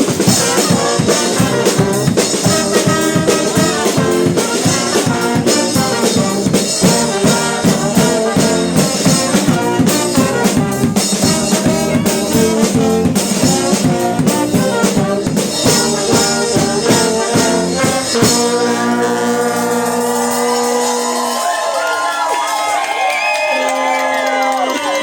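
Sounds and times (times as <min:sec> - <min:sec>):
brass band playing: 0:00.0 - 0:22.6, 0:23.4 - 0:25.0
steady drum beat: 0:00.0 - 0:22.7.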